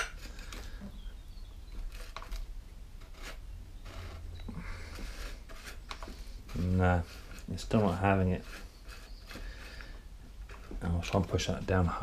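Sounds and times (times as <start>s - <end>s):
clicks and scrapes of chain brake: 0.0s - 0.8s, 1.6s - 12.0s.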